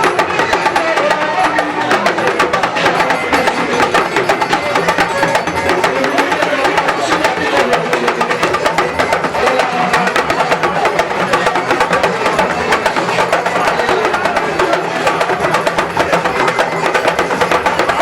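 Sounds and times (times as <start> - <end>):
hand percussion music: 0.0 - 18.0.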